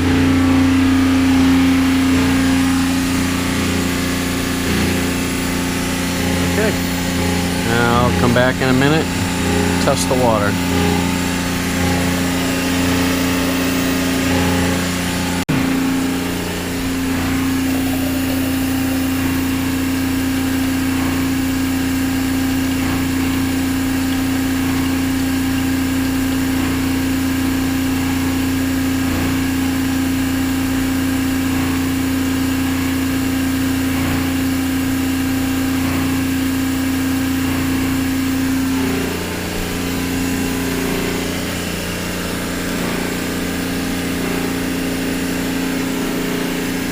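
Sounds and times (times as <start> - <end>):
water pump humming: 0.0 - 46.9.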